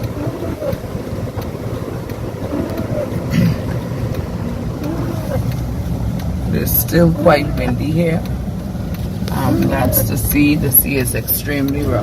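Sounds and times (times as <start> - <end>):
vehicle driving on road: 0.0 - 12.0
wind buffeting microphone: 0.0 - 12.0.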